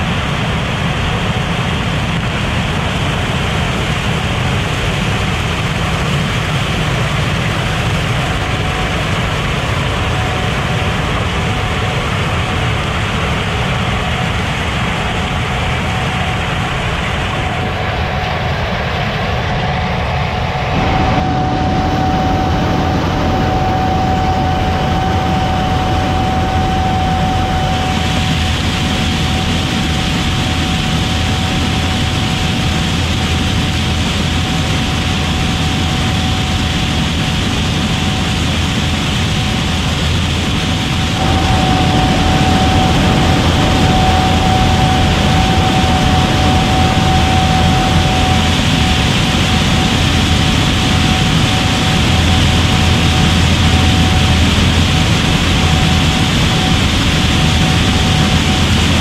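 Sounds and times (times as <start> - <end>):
combine harvester running under load: 0.0 - 59.0.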